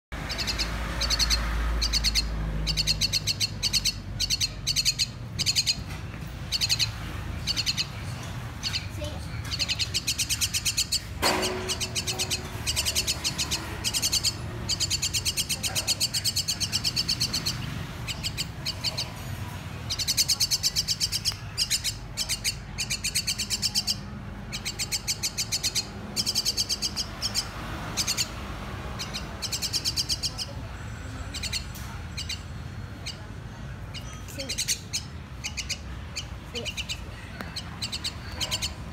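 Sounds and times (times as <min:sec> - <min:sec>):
bird begging calls: 0:00.2 - 0:33.3.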